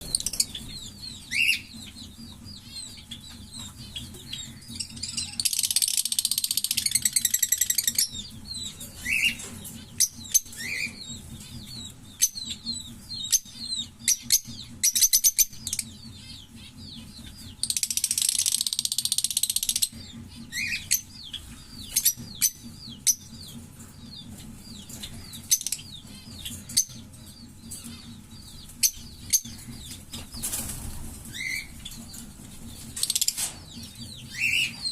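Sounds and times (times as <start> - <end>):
bird rapid pulsing chatter: 0.0 - 34.9
lovebirds chirping: 0.0 - 34.9.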